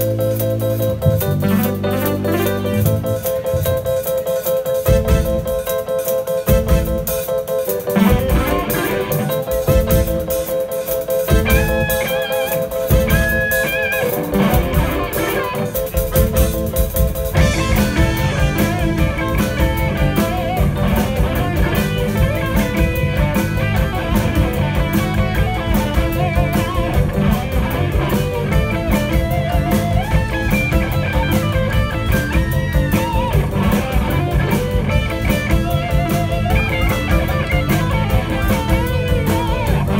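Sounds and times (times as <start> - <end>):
bass guitar: 0.0 - 39.9
drums and cymbals: 0.0 - 39.9
electric guitar: 0.0 - 39.9.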